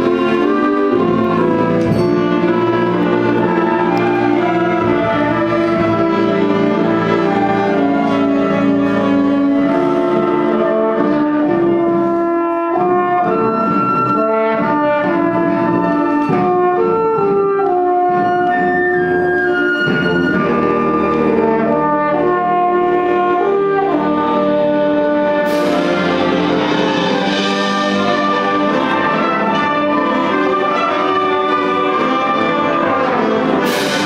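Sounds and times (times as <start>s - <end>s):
concert band accompaniment: 0.0s - 34.0s.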